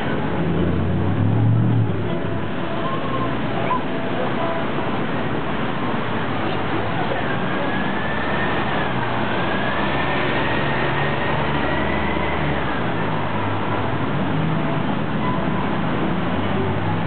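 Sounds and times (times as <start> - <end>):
traffic engine drone: 0.0 - 17.0.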